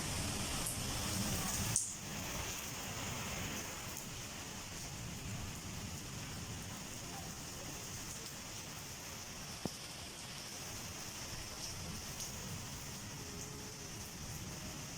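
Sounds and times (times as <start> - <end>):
heavy rain hissing: 0.0 - 14.9.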